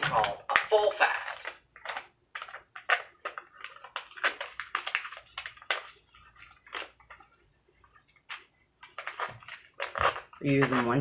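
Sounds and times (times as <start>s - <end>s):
paper being crumpled: 0.0s - 11.0s.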